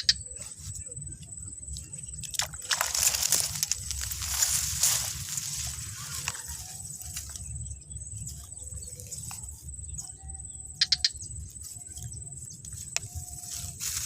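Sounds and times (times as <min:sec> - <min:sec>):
high insect trill: 0:00.0 - 0:14.0
sharp chirps: 0:00.0 - 0:14.0
low rumble: 0:00.2 - 0:13.8.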